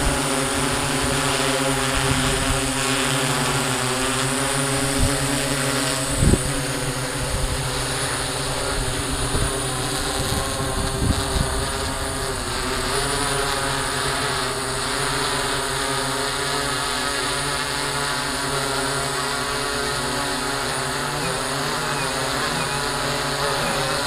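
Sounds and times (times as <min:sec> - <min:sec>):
drone propeller buzz: 0:00.0 - 0:24.0.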